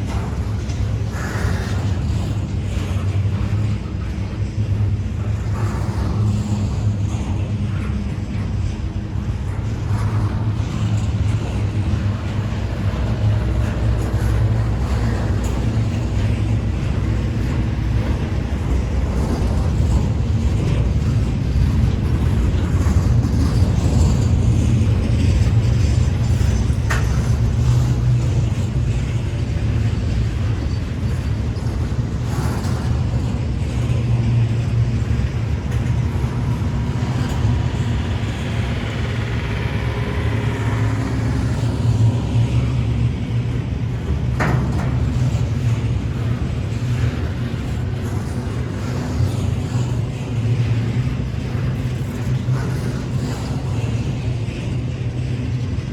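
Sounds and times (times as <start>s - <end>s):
freight train wheels rumbling on rail: 0.0s - 55.9s.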